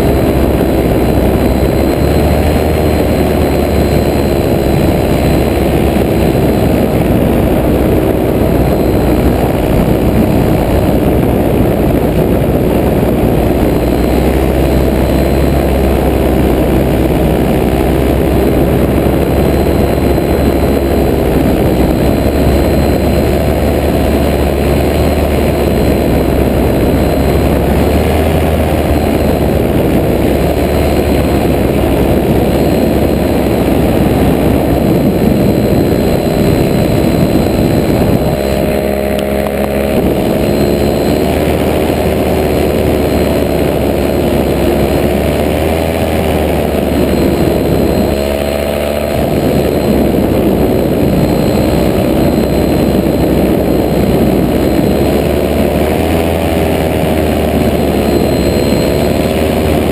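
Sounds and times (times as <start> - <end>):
paramotor engine and propeller running: 0.0 - 59.9.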